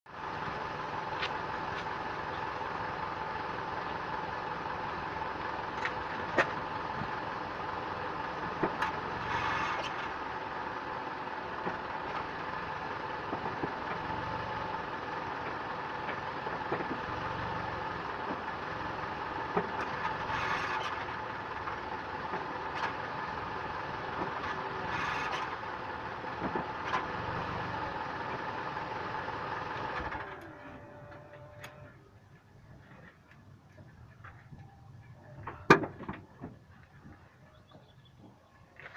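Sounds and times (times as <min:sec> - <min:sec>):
car engine idling: 0:00.1 - 0:38.9.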